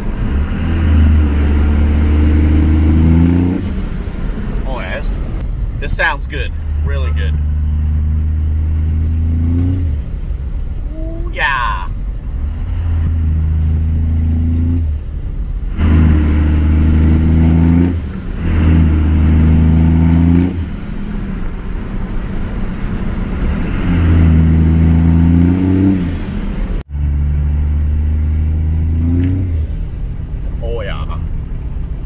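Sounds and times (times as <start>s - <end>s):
diesel engine revving: 0.0s - 32.0s
exhaust crackling: 0.0s - 32.0s.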